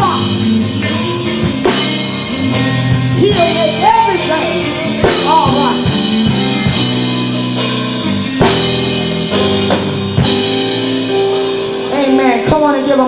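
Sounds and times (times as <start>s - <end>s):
gospel band playing: 0.0s - 13.0s.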